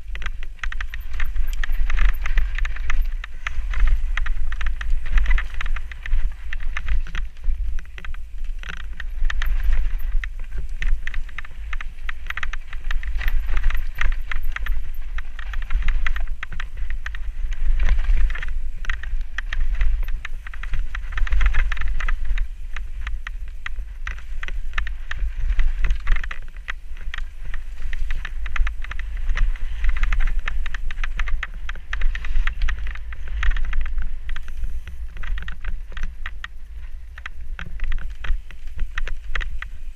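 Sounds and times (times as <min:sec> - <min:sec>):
bike tyres crunching over stones: 0:00.0 - 0:39.9
wind buffeting microphone: 0:00.0 - 0:39.9.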